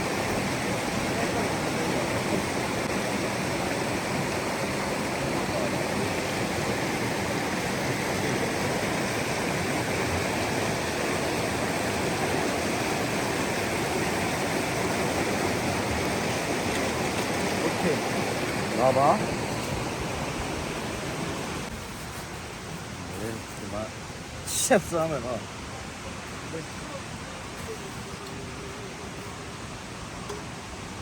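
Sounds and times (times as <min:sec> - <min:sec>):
river water rushing: 0:00.0 - 0:31.0.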